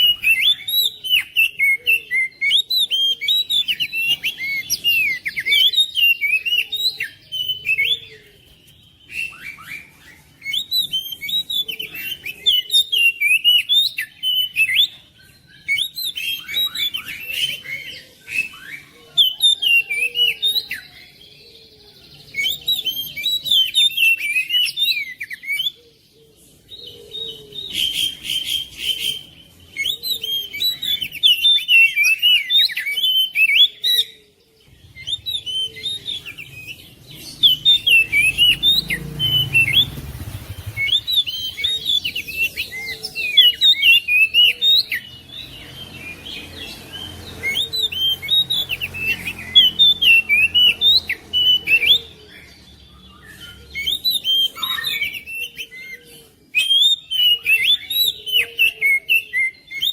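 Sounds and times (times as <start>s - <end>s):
bird singing whistles and chirps: 0.0s - 59.9s.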